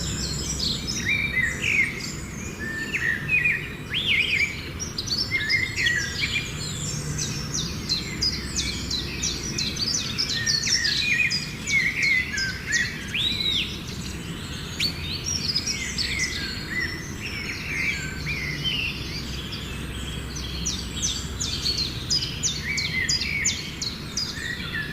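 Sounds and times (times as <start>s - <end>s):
birds chirping and calling: 0.0s - 24.9s.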